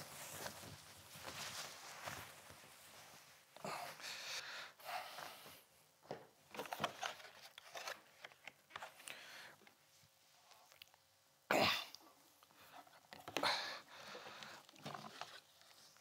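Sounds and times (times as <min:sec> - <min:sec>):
clothes rustling and crinkling: 0:00.0 - 0:11.4, 0:12.0 - 0:16.0.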